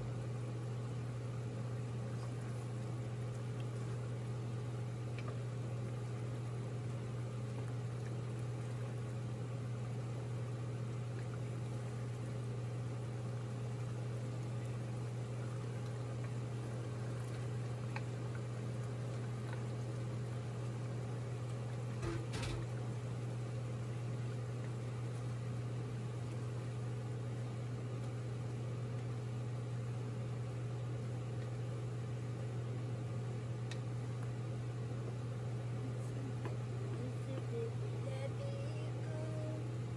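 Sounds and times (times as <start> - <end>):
curry bubbling: 0.0 - 38.0
steady low hum: 0.0 - 39.9.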